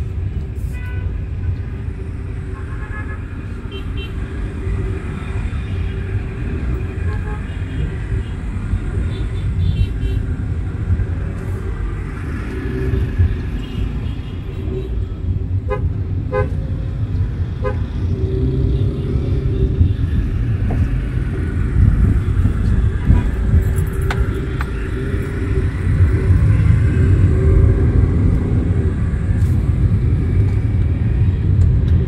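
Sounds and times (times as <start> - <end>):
engine and road rumble: 0.0 - 32.0.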